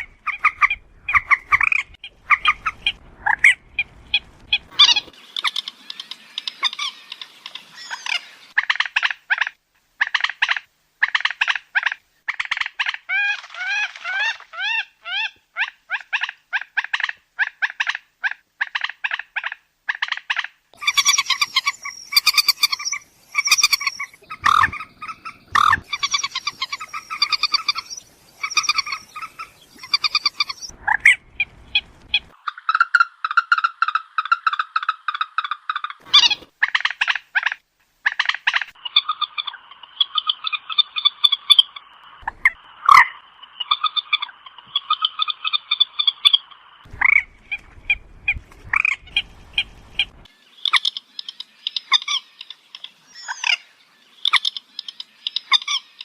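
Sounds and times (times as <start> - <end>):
moorhen clucking calls: 0.0 - 56.0.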